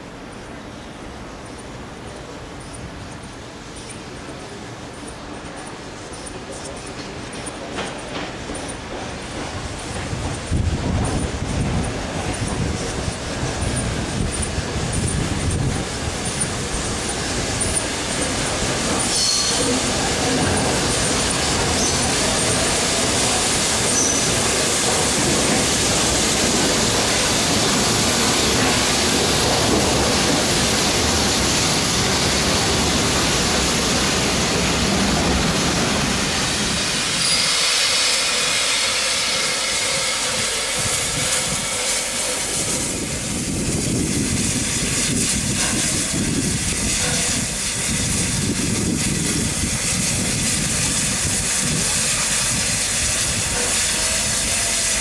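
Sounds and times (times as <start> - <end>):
locomotive hissing steam: 0.0 - 55.0
train rumbling on rails: 0.0 - 55.0.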